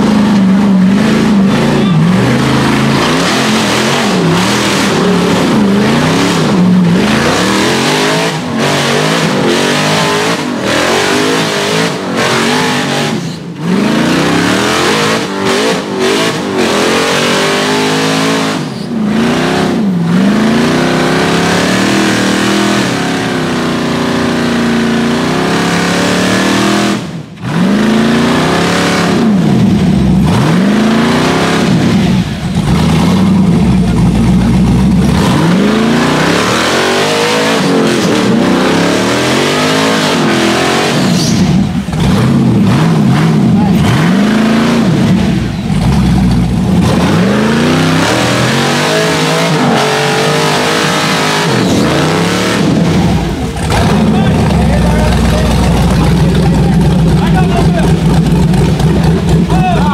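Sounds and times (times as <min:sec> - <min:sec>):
engine revving hard: 0:00.0 - 0:59.9.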